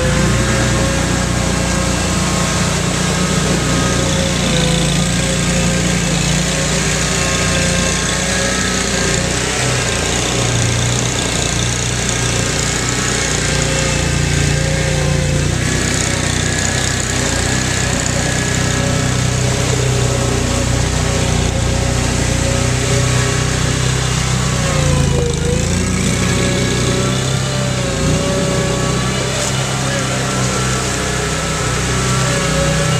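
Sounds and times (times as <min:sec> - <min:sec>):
small engines running: 0:00.0 - 0:32.9
vehicles wading through mud: 0:00.0 - 0:32.9.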